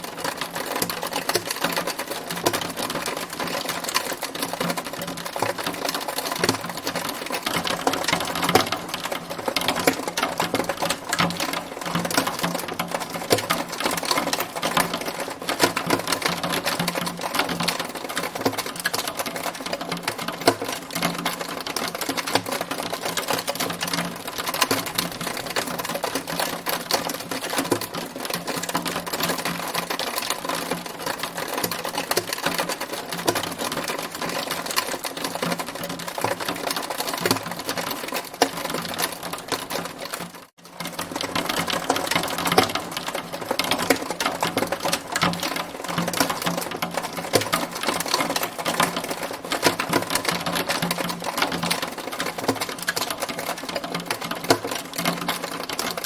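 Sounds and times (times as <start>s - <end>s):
hailstones clattering: 0.0s - 56.0s.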